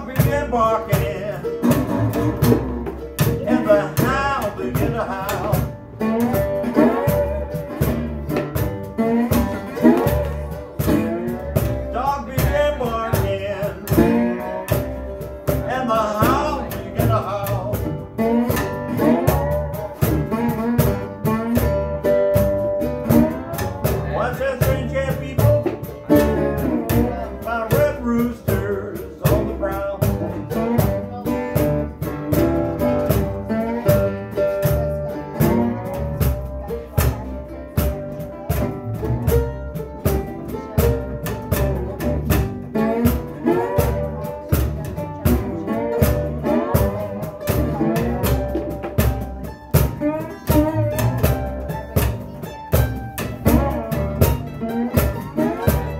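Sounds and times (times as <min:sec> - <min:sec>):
acoustic blues band playing: 0:00.0 - 0:55.9
acoustic guitar: 0:00.0 - 0:55.9
cajon beat: 0:00.0 - 0:55.9
upright bass: 0:00.0 - 0:55.9.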